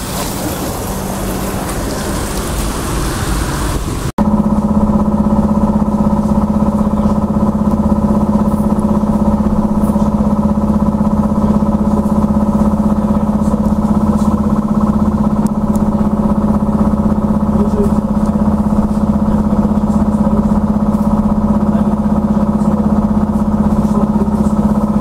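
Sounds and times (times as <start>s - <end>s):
road rumble: 0.0s - 25.0s
trolleybus electric hum: 0.0s - 25.0s.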